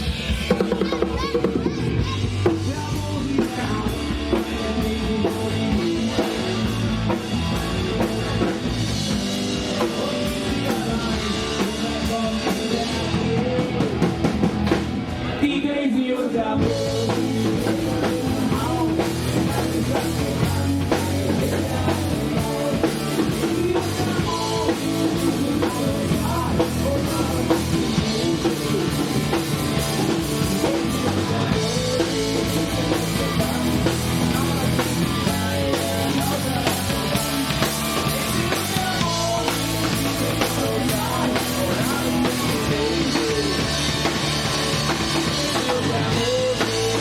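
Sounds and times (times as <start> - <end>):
drum kit beating: 0.0 - 15.6, 16.2 - 47.0
live punk rock band: 0.0 - 47.0.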